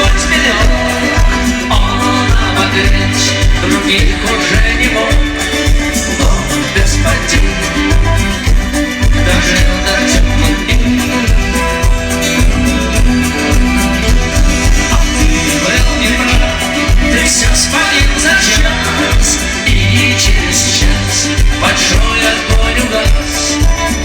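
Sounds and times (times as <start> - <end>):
rock band music: 0.0 - 24.0.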